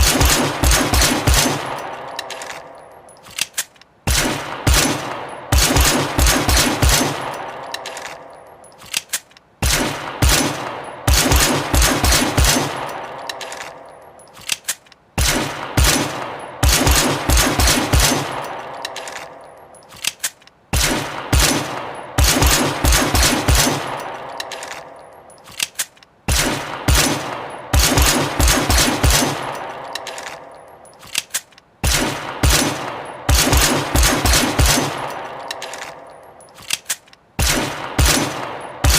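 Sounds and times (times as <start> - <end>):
rapid sharp bangs with ringing decay: 0.0 - 3.0, 4.0 - 8.5, 9.6 - 14.0, 15.2 - 19.7, 20.7 - 25.1, 26.3 - 30.7, 31.8 - 36.2, 37.4 - 38.9.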